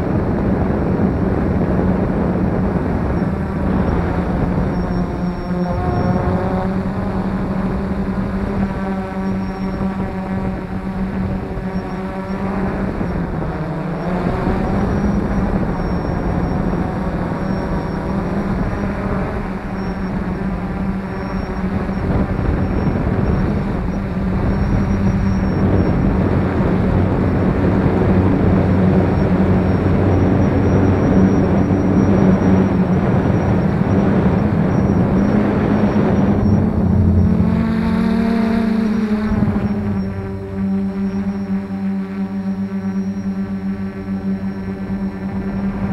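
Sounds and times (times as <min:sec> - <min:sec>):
quadcopter motors droning: 0:00.0 - 0:45.9.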